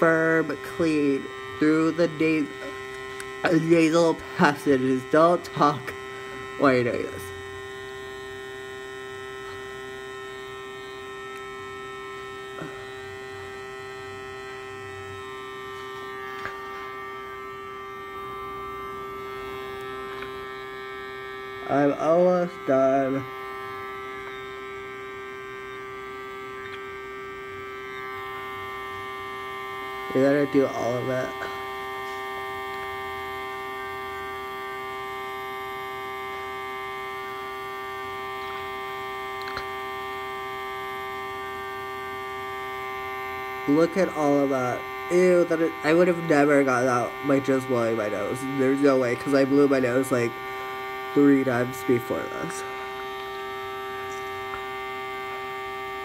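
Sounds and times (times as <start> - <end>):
suction pump humming: 0.0 - 56.0.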